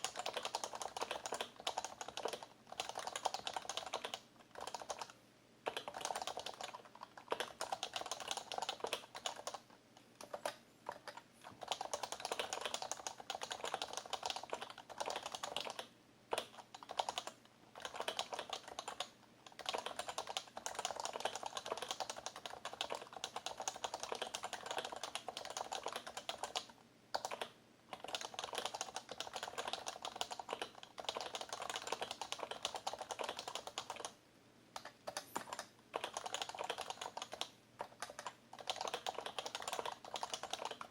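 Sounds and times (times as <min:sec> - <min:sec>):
typing on keyboard: 0:00.0 - 0:34.2, 0:34.8 - 0:40.9.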